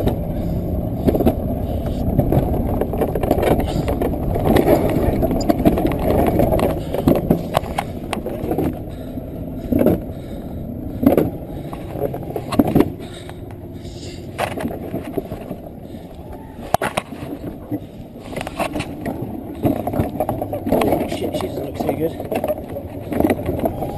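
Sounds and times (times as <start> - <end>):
coaster sled rolling rumble: 0.0 - 23.9
sled knocks and rattles: 0.0 - 23.9.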